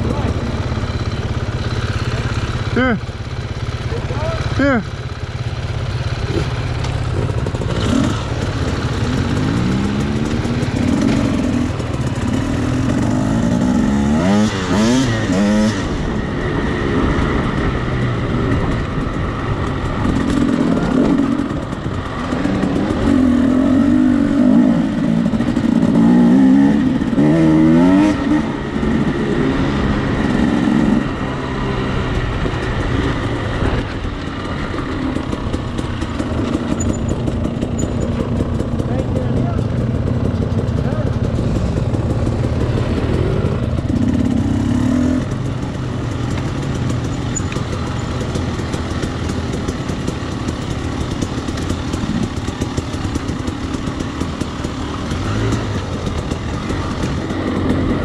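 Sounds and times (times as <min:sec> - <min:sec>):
dirt bike engine revving: 0:05.6 - 0:58.0.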